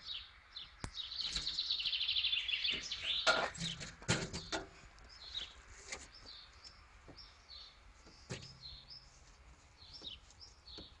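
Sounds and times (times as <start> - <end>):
small bird chirping: 0.0 - 3.8, 5.1 - 11.0.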